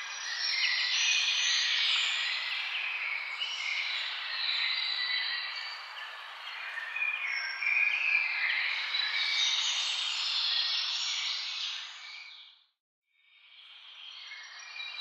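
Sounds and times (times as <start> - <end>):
birds singing: 0.0 - 12.5.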